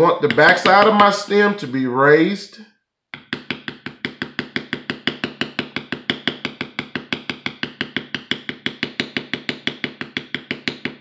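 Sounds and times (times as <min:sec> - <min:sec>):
mallet tapping leather tool: 0:00.0 - 0:01.0, 0:03.2 - 0:11.0.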